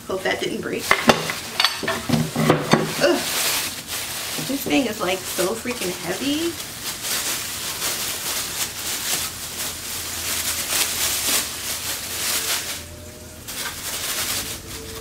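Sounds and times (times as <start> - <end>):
plastic bag crinkling: 0.6 - 15.0.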